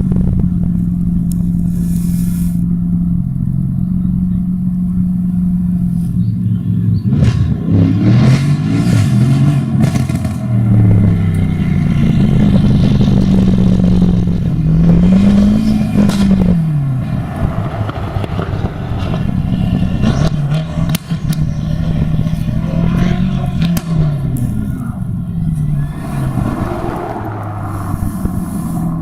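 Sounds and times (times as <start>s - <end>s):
car engine revving: 0.0s - 29.0s
exhaust cracks: 0.0s - 29.0s.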